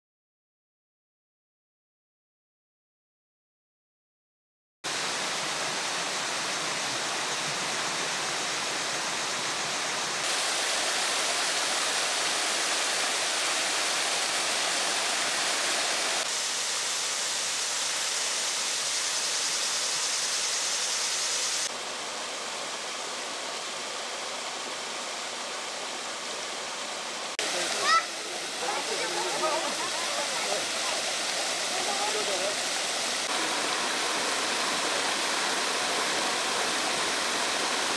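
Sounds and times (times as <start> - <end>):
waterfall rushing: 4.9 - 37.9.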